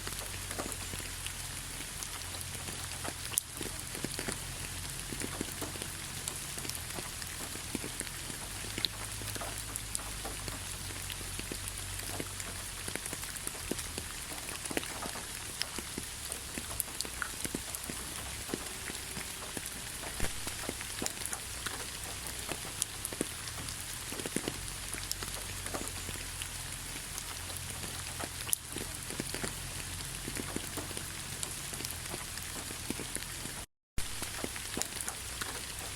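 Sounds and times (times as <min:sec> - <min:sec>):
continuous hiss: 0:00.0 - 0:35.9
rain pattering on a surface: 0:00.0 - 0:35.9.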